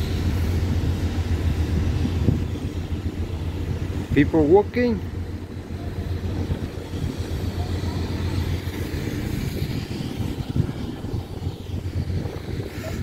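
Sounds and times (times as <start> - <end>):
ship machinery humming: 0.0 - 13.0.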